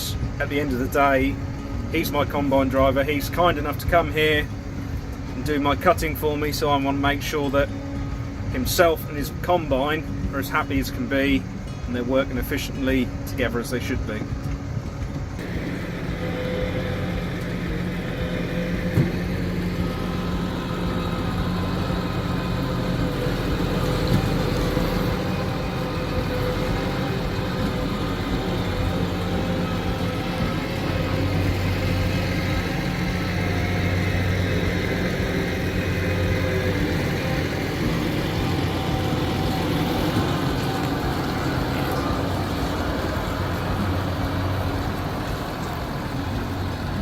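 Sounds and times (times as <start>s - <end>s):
harvest machinery engine drone: 0.0s - 47.0s.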